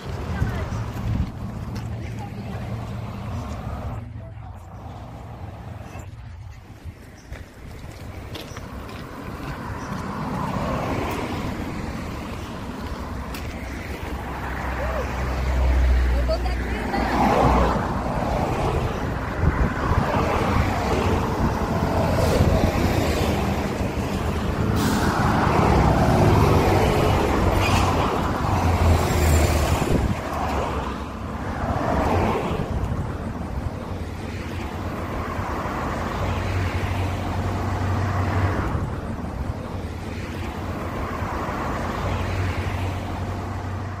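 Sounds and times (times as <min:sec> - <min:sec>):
cars and trucks passing: 0:00.0 - 0:44.0
low traffic rumble: 0:00.0 - 0:44.0.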